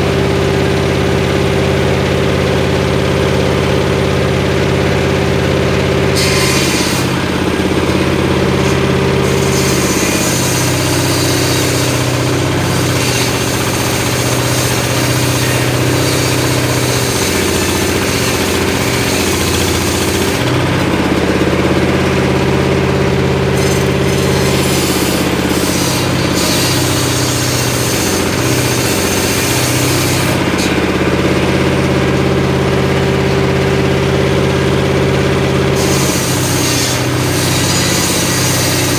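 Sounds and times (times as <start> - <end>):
engine-driven circular saw running: 0.0 - 38.9
saw blade cutting wood: 4.5 - 38.9.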